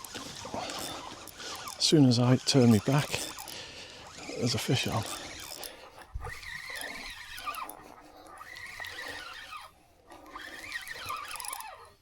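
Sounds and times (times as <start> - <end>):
fishing reel squealing and whirring: 0.0 - 12.0.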